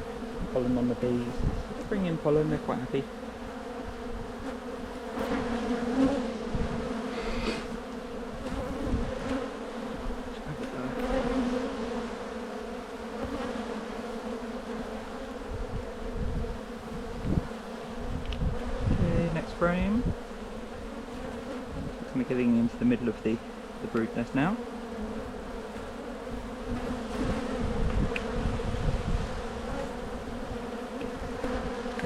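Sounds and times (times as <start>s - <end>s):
honey bees humming: 0.0s - 32.0s.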